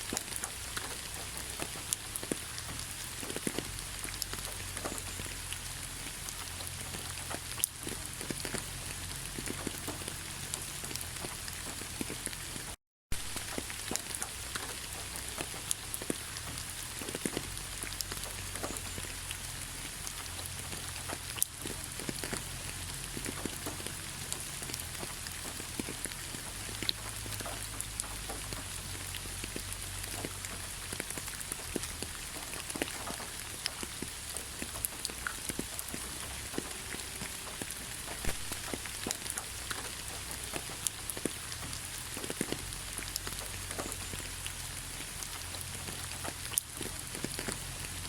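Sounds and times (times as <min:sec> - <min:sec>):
heavy rain hiss: 0:00.0 - 0:48.0
raindrops pattering on surface: 0:00.0 - 0:48.0.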